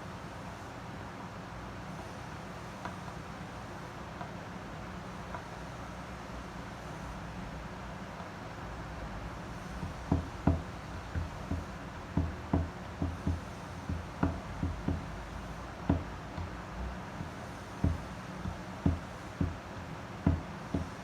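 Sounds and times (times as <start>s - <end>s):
electric fan whirring: 0.0s - 21.0s.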